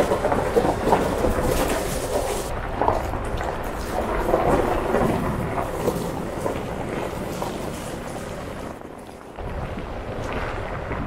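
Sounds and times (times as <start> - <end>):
tyres crunching on gravel: 0.0 - 9.4
wind buffeting microphone: 0.0 - 11.0.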